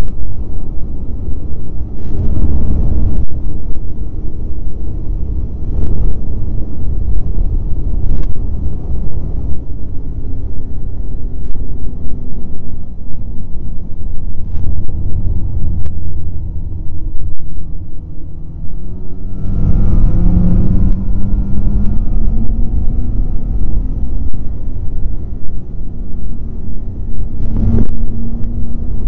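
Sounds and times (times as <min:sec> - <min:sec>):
snowmobile engine rumble: 0:00.0 - 0:29.0
wind buffeting microphone: 0:00.0 - 0:29.0.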